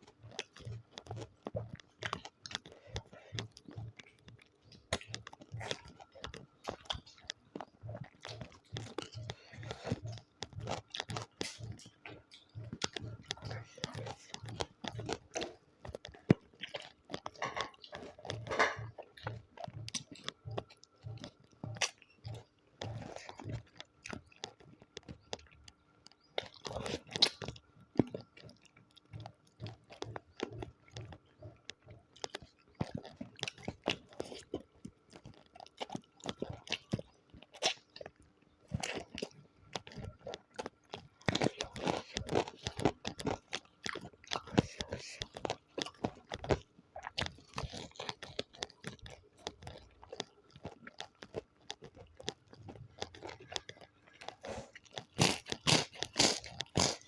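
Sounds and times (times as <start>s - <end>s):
chewing and crunching food: 0.0s - 57.0s.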